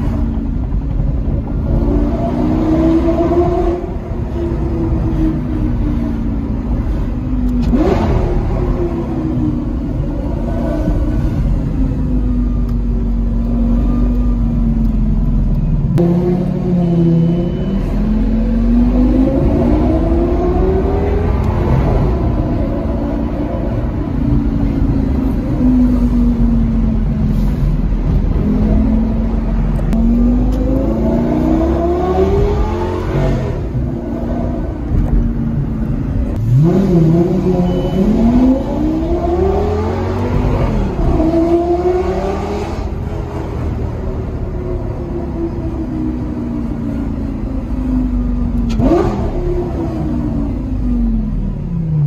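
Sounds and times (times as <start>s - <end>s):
car engine accelerating from inside: 0.0s - 52.0s.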